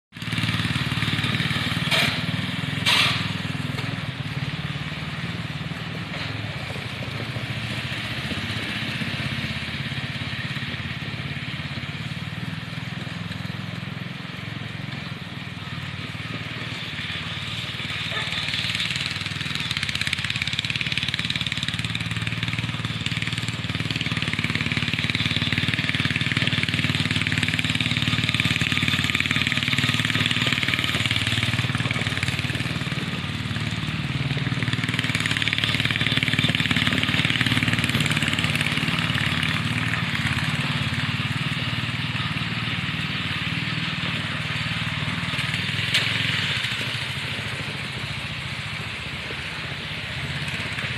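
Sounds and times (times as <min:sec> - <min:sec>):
riding mower engine running: 0:00.1 - 0:50.9.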